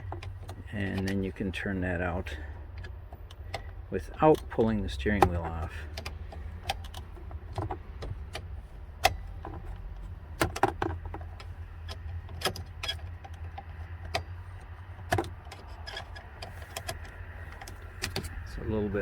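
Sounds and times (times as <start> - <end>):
light metallic clicks and taps: 0.0 - 1.5, 2.4 - 18.5.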